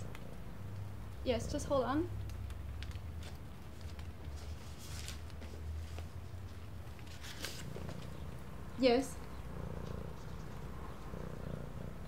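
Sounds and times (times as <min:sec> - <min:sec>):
soft rustling: 0:00.8 - 0:11.2.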